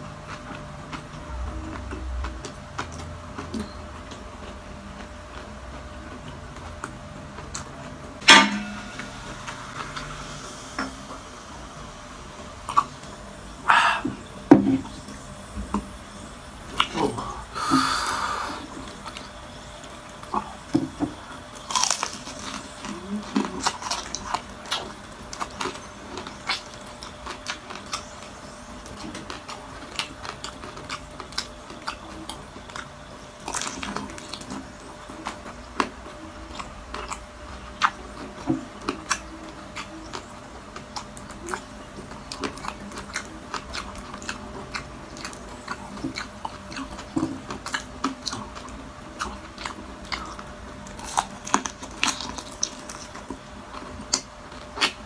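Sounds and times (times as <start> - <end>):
crunching and chewing crispy food: 0.0 - 11.2, 12.5 - 55.0.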